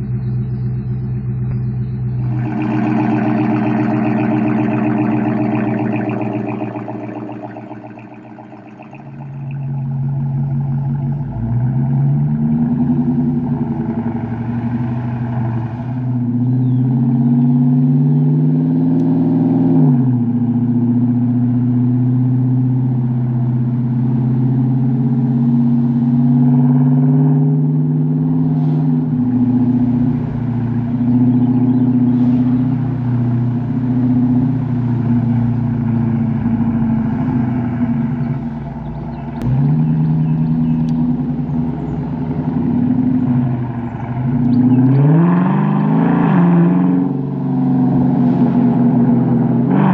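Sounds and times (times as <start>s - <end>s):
deep car exhaust note: 0.0s - 18.4s, 20.2s - 49.9s.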